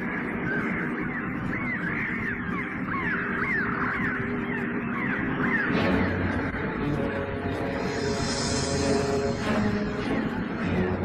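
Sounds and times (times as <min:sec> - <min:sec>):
crow-like bird calls: 0:00.0 - 0:10.0
steady low drone: 0:00.0 - 0:11.0.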